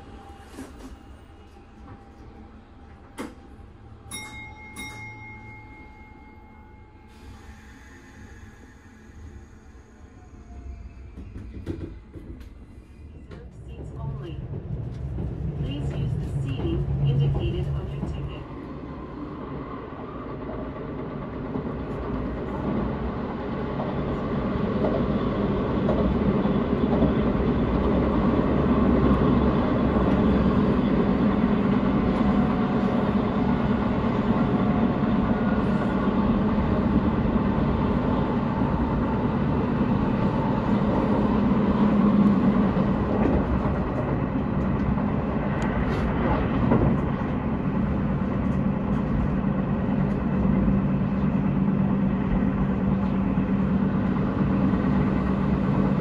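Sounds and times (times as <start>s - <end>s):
electric train running on rails: 0.0s - 56.0s
train whine: 0.0s - 56.0s.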